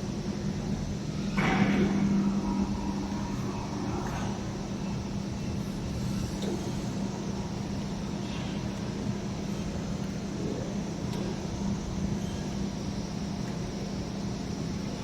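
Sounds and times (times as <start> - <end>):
laser cutting machine humming: 0.0 - 15.0.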